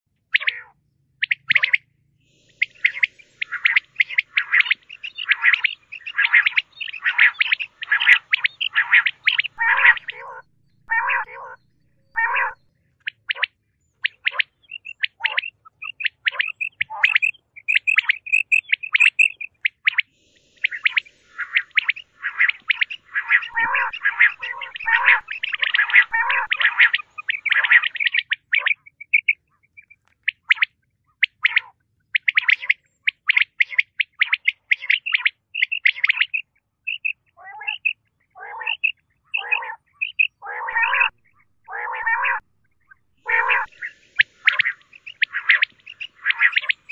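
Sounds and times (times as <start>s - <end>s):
quail calling: 0.3s - 46.9s.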